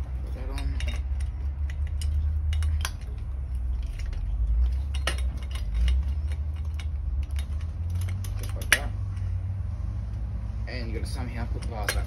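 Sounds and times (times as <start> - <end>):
light clicks and metallic clinks: 0.0 - 9.4, 10.8 - 12.0
steady low rumble: 0.0 - 12.0.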